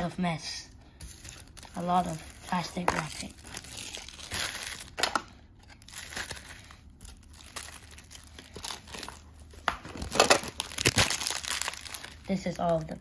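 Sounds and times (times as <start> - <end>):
plastic wrap crinkling: 1.0 - 13.0.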